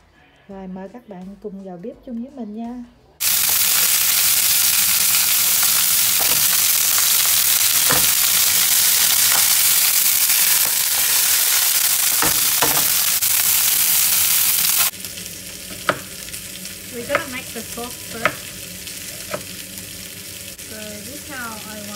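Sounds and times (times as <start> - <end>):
chicken sizzling in hot oil: 3.2 - 21.9.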